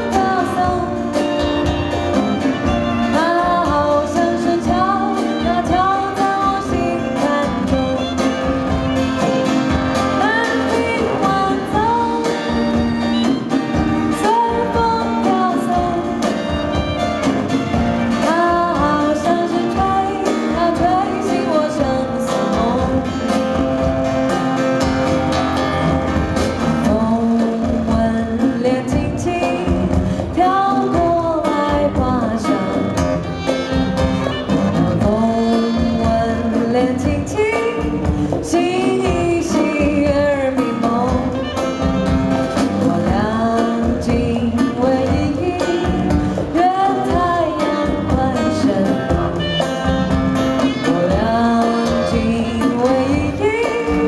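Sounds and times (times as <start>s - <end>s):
woman singing: 0.0s - 24.7s, 26.7s - 54.0s
acoustic guitar: 0.0s - 54.0s
drums and percussion: 0.0s - 54.0s.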